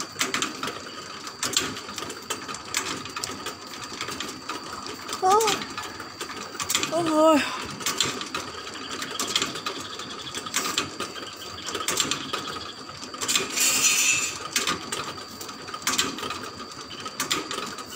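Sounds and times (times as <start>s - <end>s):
rotisserie gears clicking and rattling: 0.0s - 17.9s.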